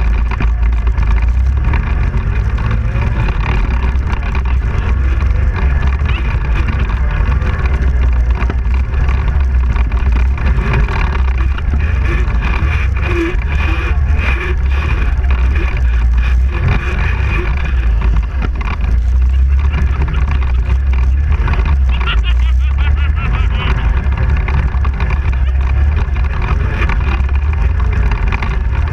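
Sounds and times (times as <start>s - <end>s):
quad bike engine running: 0.0s - 28.9s.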